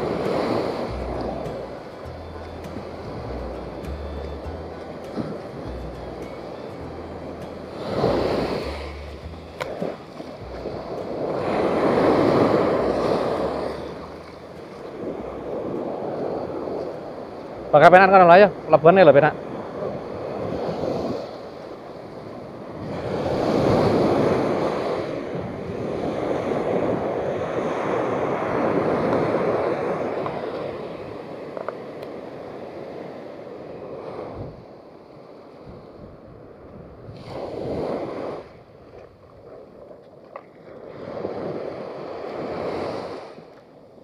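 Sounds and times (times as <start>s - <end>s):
small waves breaking on sand: 0.0s - 2.0s, 7.6s - 44.0s.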